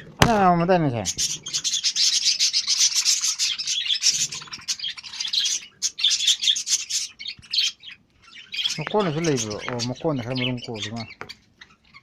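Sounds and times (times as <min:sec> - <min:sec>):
budgerigars chattering: 0:00.9 - 0:12.0.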